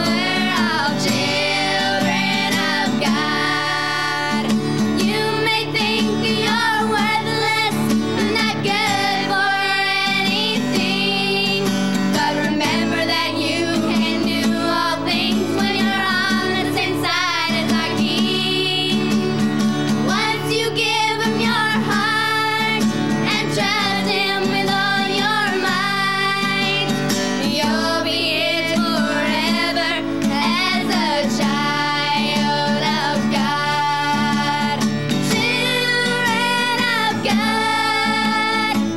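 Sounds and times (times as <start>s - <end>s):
girls singing: 0.0s - 38.9s
strummed acoustic guitar: 0.0s - 38.9s.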